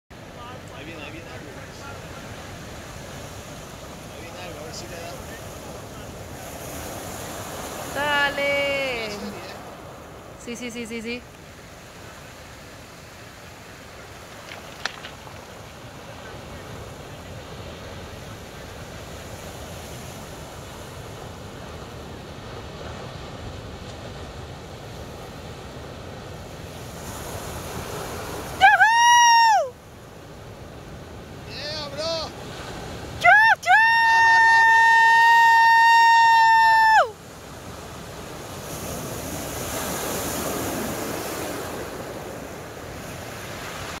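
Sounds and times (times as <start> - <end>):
surf breaking on beach: 0.2 - 44.0.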